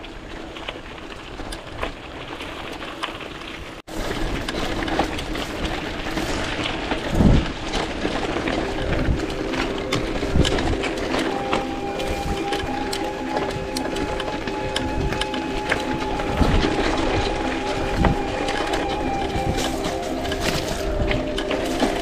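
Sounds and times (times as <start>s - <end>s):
bike clicks and rattles: 0.0s - 22.0s
tyres on dirt: 0.0s - 22.0s
wind rush: 3.9s - 22.0s.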